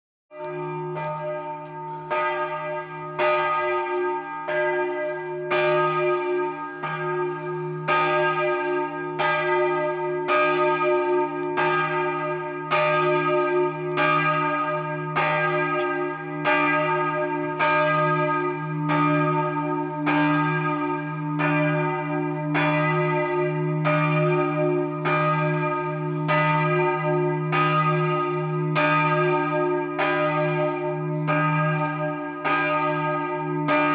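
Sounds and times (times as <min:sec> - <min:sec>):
church bell ringing: 0:00.3 - 0:33.9.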